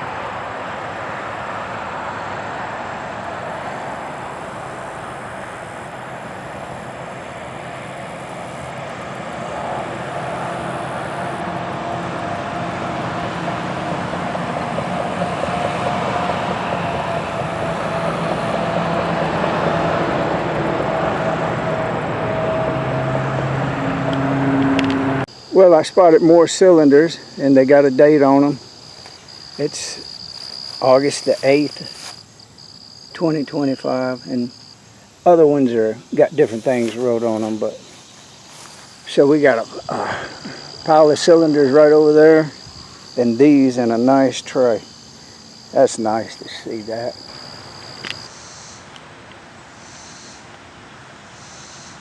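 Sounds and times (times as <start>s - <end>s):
engine hum: 0.0s - 48.7s
passing vehicles rushing: 0.0s - 48.7s.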